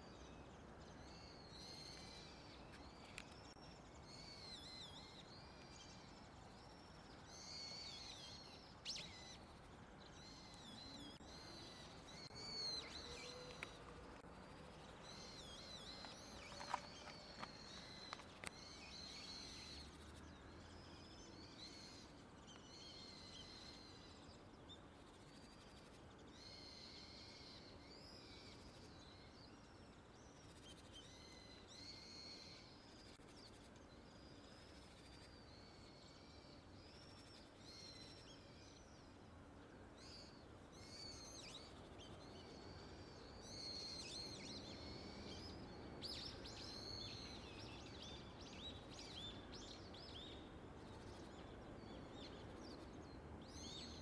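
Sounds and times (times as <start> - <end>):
low outdoor hum: 0.0 - 54.0
small birds chirping: 0.0 - 54.0.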